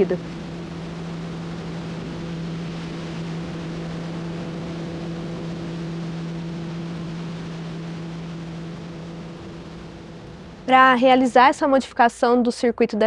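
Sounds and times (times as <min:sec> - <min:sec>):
even rushing noise: 0:00.0 - 0:11.6
low mechanical hum: 0:00.0 - 0:11.9.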